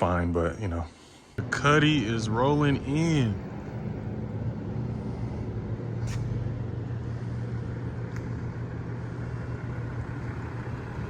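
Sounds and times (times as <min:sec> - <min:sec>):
truck engine running: 0:01.0 - 0:11.0.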